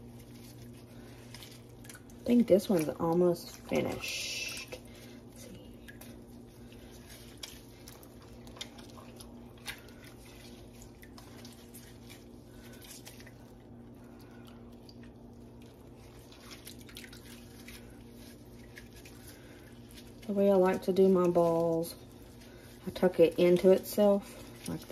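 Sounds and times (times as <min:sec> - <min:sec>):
steady low hum: 0:00.0 - 0:24.9
wet squishing and dripping: 0:00.0 - 0:24.9.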